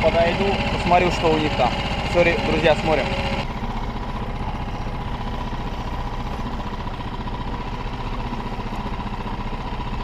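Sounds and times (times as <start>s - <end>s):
outboard motor droning: 0.0s - 10.0s.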